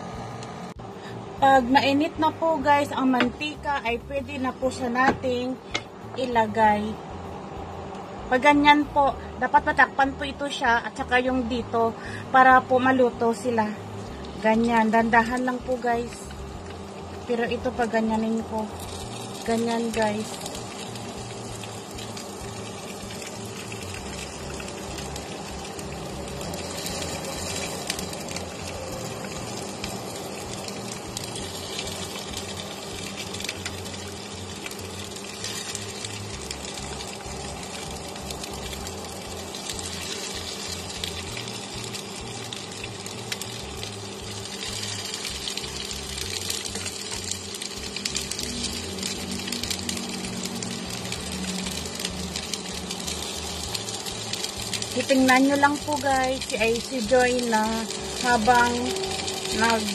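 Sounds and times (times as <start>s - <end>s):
peppers sizzling in hot oil: 0.0s - 59.9s
steady low hum: 0.0s - 59.9s.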